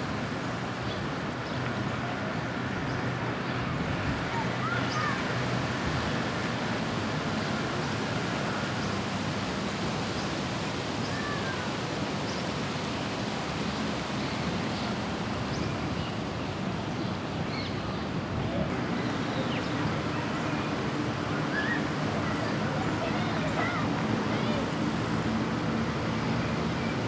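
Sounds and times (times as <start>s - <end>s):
steady hiss-like noise: 0.0s - 27.0s.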